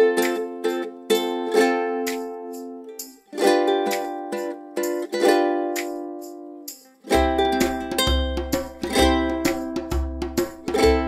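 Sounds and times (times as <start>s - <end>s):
light instrumental tune: 0.0s - 11.0s.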